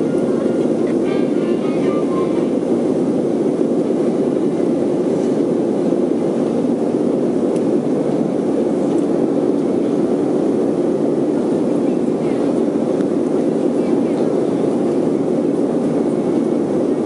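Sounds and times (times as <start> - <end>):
air rushing past fuselage: 0.0 - 17.0
jet engines droning: 0.0 - 17.0.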